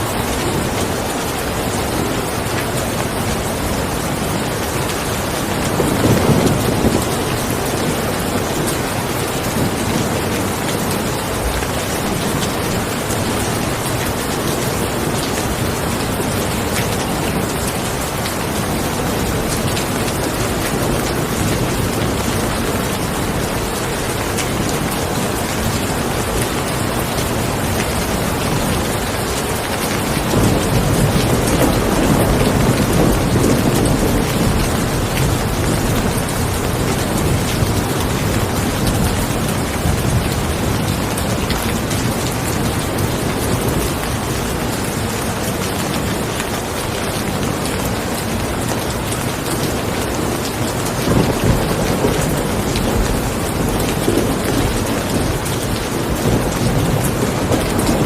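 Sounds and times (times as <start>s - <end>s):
steady rain: 0.0s - 58.0s
thunder rumbling: 0.1s - 45.0s, 49.4s - 58.0s.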